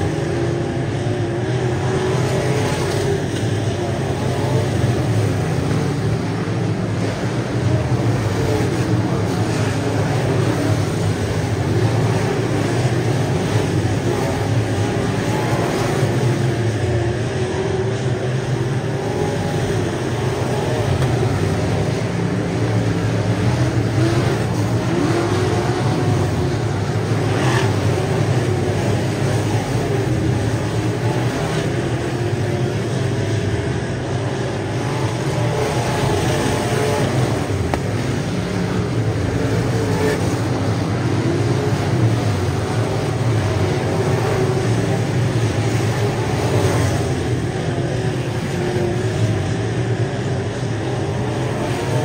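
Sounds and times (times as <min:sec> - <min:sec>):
race car engines droning: 0:00.0 - 0:52.0.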